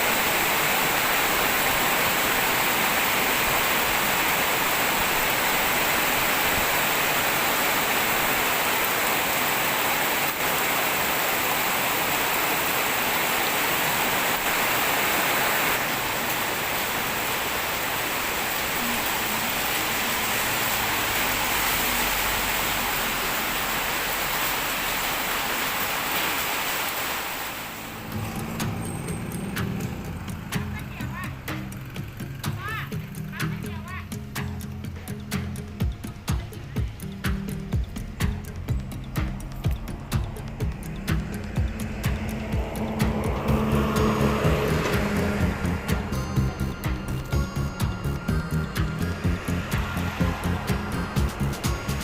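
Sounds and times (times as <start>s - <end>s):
heavy rain pouring: 0.0s - 33.6s, 35.8s - 52.0s.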